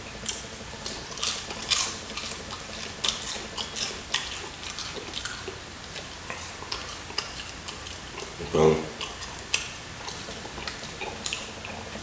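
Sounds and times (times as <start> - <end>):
crunchy chewing of fried chicken: 0.0 - 12.0.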